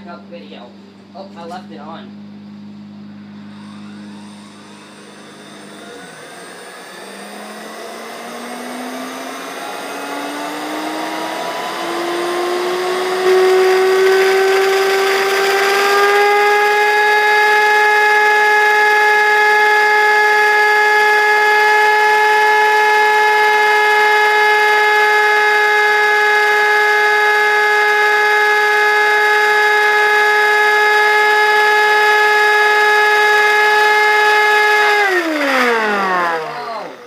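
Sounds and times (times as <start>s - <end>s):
high whine of spinning motor: 0.0s - 37.0s.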